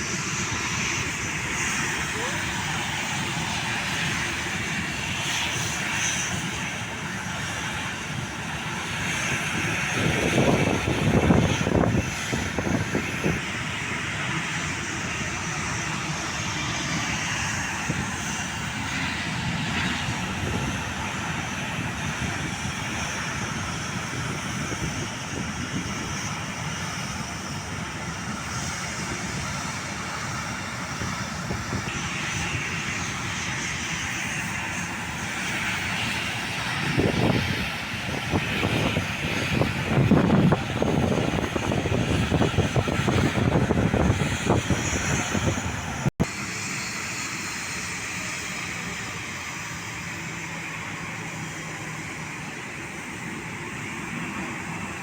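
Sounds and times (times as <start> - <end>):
airliner engine rush: 0.0 - 55.0.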